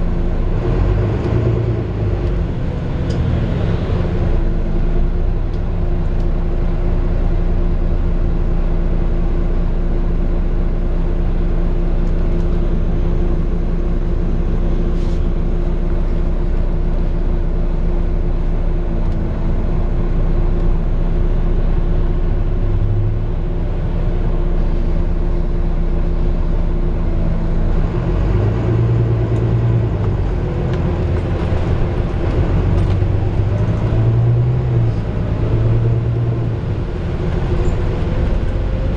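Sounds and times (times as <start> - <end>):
bus diesel engine drone: 0.0 - 38.9
road rumble: 0.0 - 38.9.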